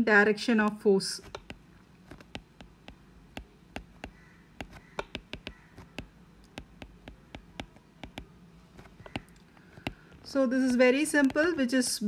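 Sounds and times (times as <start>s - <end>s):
stylus tapping on screen: 1.2s - 11.7s.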